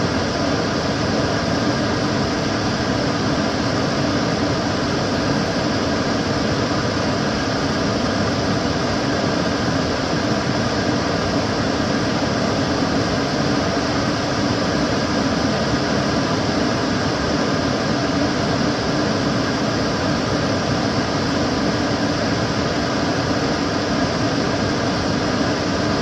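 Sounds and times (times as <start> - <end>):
extractor fan running: 0.0 - 26.0.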